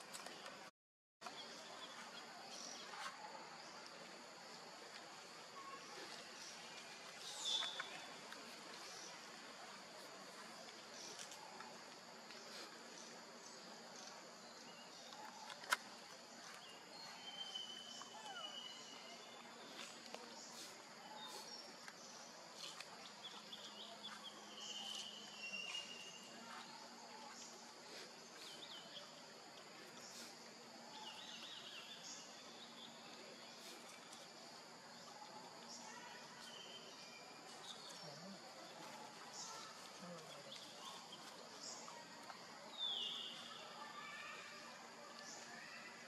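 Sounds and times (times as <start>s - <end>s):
insects droning: 1.2s - 46.0s.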